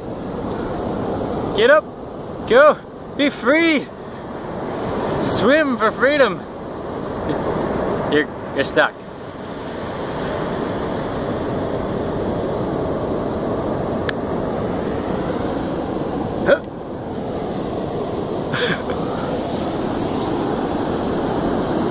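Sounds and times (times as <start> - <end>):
ocean waves on sandy beach: 0.0 - 21.9.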